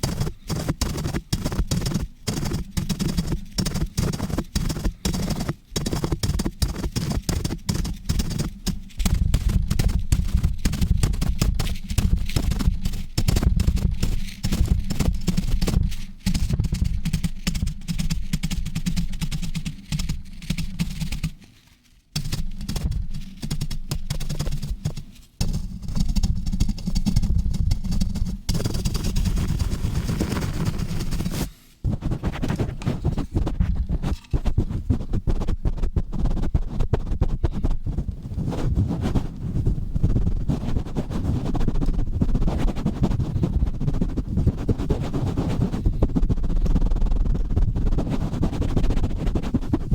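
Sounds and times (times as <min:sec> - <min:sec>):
microphone thudding: 0:00.0 - 0:18.4, 0:23.9 - 0:49.9
hissy brushing: 0:00.0 - 0:18.9, 0:19.5 - 0:49.9
scratchy strokes: 0:00.0 - 0:49.9.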